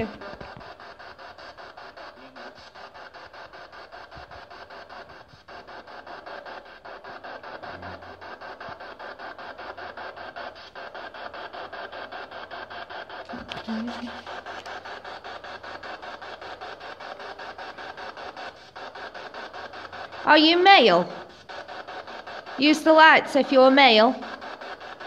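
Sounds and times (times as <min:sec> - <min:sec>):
stuttering radio static: 0:00.0 - 0:25.0.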